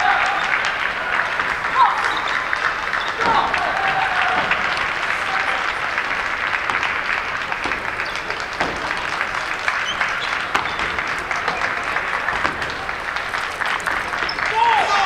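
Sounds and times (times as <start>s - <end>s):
crowd clapping: 0.0s - 15.0s
faint crowd voices: 0.0s - 15.0s.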